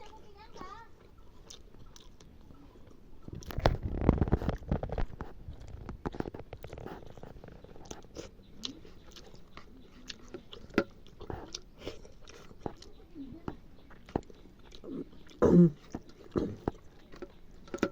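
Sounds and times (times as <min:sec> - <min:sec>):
person chewing food: 0:00.0 - 0:17.9.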